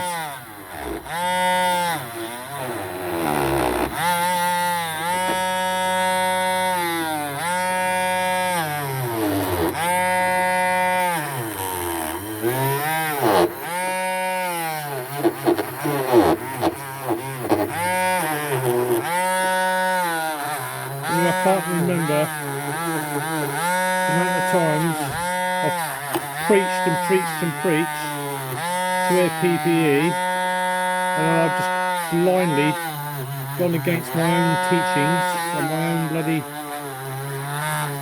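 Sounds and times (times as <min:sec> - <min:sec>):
rotary tool whining on metal: 0:00.0 - 0:38.0.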